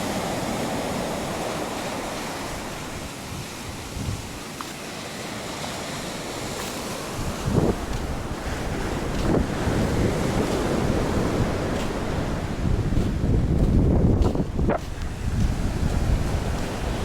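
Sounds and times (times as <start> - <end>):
wind buffeting microphone: 0.0 - 4.6, 5.6 - 17.0
surf rushing: 0.0 - 17.0.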